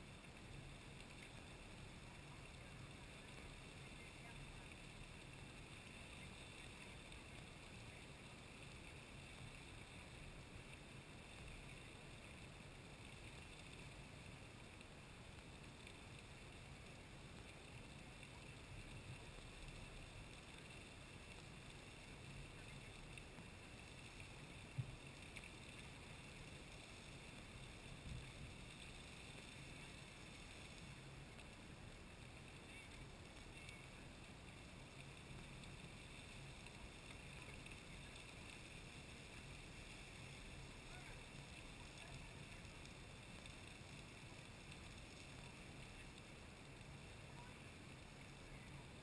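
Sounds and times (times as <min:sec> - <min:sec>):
geyser water rushing hiss: 0:00.0 - 0:49.0.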